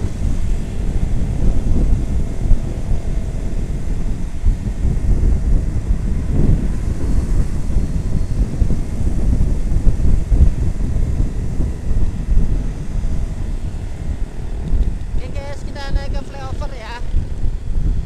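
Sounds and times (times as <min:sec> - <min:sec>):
motorcycle engine and road noise: 0:00.0 - 0:18.0
wind buffeting microphone: 0:00.0 - 0:18.0.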